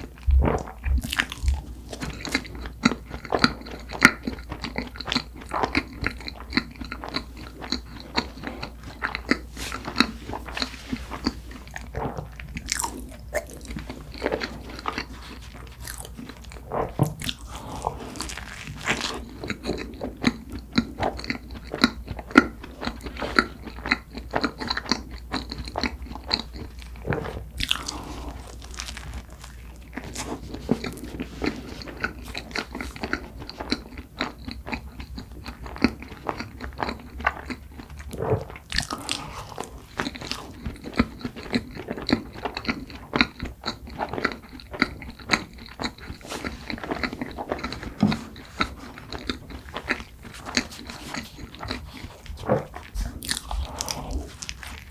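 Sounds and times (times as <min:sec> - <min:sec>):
biting and chewing bread: 0:00.0 - 0:54.9.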